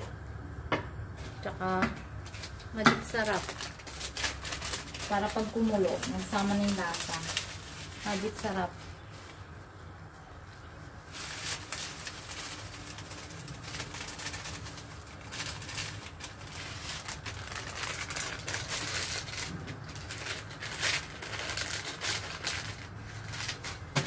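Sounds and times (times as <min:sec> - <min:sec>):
foil sachet crinkling: 0:02.1 - 0:24.0.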